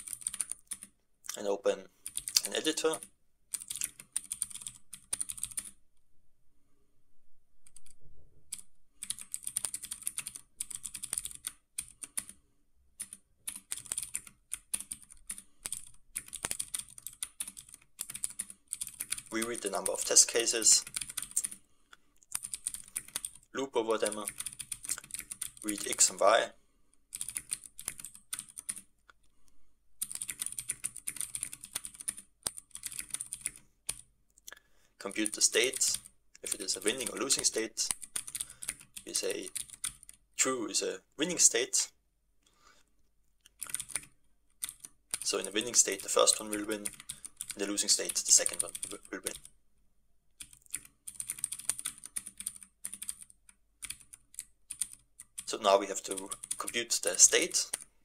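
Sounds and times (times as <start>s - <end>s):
computer keyboard typing: 0.0s - 0.9s, 2.0s - 5.8s, 7.6s - 12.4s, 13.0s - 21.6s, 22.2s - 26.4s, 27.1s - 28.9s, 30.0s - 34.1s, 35.2s - 40.2s, 43.5s - 49.5s, 50.4s - 57.9s.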